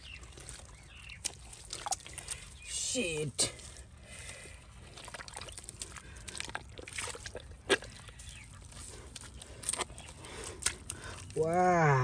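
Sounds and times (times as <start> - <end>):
hands squelching in wet mud: 0.0 - 12.0.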